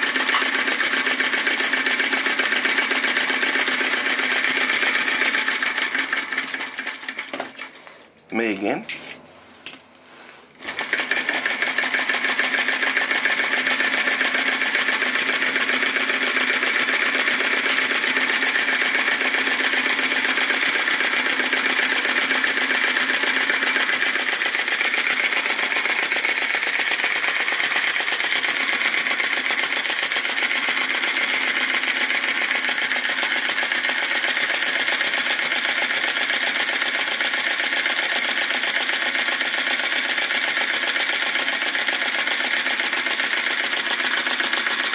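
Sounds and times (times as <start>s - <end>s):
small engine mechanical clatter: 0.0s - 7.9s, 10.6s - 44.9s.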